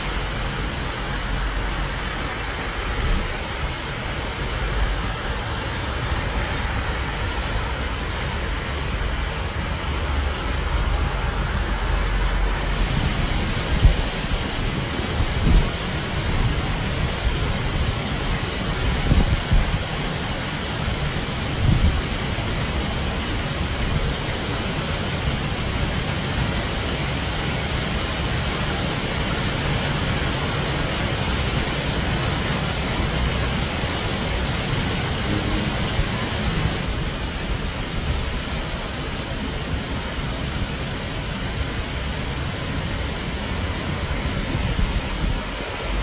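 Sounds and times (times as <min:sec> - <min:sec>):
heavy rain on wet road: 0:00.0 - 0:46.0.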